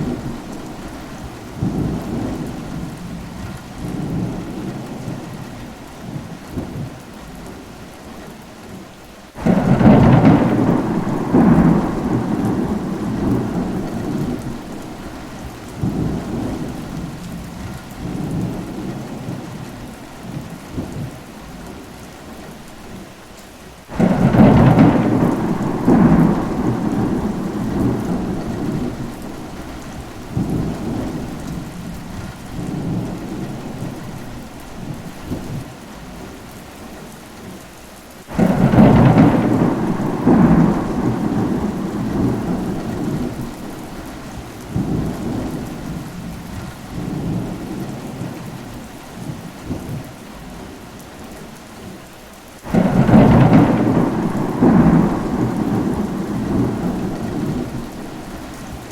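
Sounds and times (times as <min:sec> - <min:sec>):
thunder rumbling: 0:00.0 - 0:06.9, 0:09.4 - 0:21.2, 0:23.9 - 0:36.2, 0:38.3 - 0:50.1, 0:52.7 - 0:58.9
steady rain: 0:00.0 - 0:58.9.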